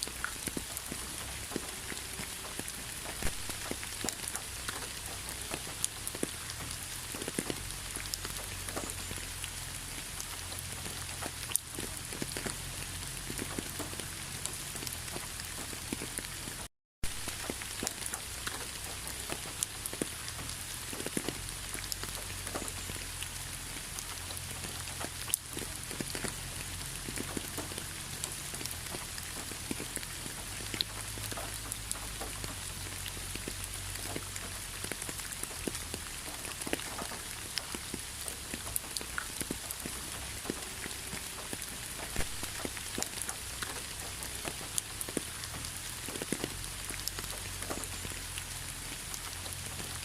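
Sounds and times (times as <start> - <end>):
raindrops ticking on a surface: 0.0 - 50.0
steady rain falling: 0.0 - 50.0.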